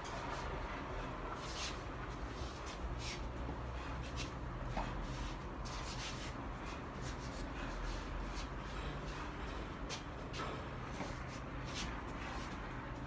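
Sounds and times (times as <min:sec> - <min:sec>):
shoes scuffing on tiled floor: 0:00.0 - 0:13.0.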